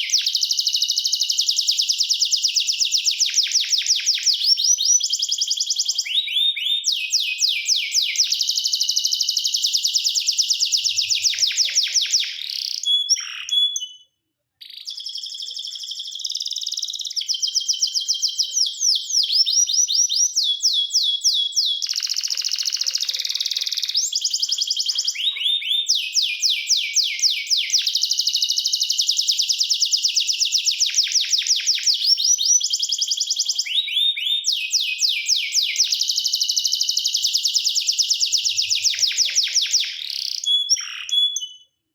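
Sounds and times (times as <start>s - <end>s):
canary singing: 0.0s - 41.8s.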